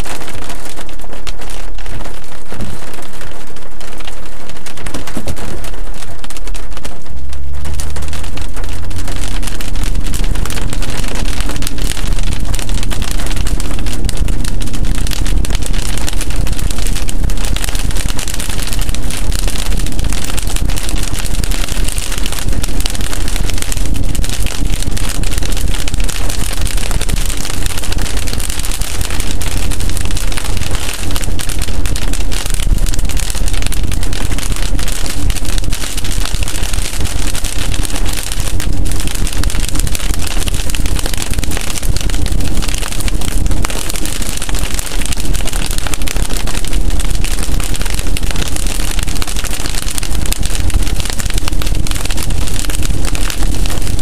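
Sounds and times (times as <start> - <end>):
rain on car windshield: 0.0 - 54.0.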